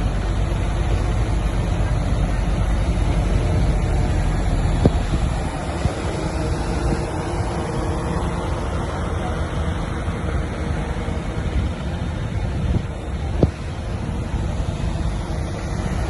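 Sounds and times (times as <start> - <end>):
heavy machinery diesel engine running: 0.0 - 16.0.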